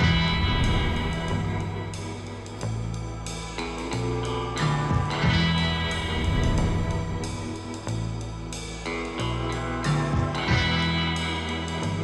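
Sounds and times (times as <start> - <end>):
bass line: 0.0 - 12.0
electric guitar music: 0.0 - 12.0.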